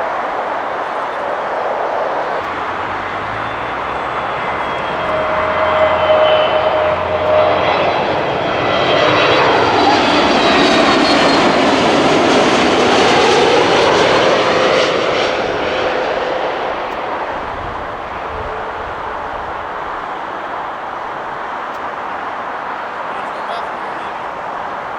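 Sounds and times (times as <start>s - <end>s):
jet airliner passing: 0.0s - 24.9s.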